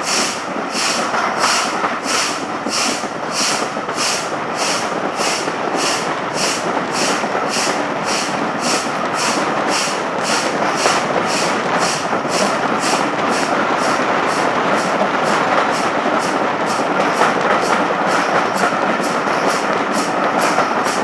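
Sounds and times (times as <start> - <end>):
steam locomotive chuffing: 0.0 - 21.0
train running along track: 0.0 - 21.0.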